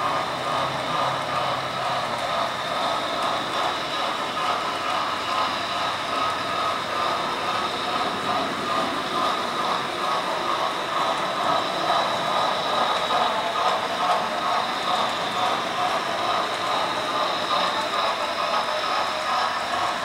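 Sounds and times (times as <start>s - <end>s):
model steam locomotive running: 0.0s - 20.0s.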